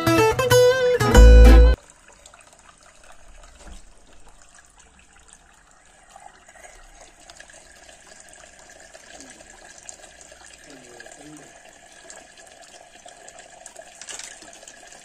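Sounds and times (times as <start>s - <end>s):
fountain water trickling: 1.8s - 15.0s
water poured from bottle: 1.8s - 15.0s.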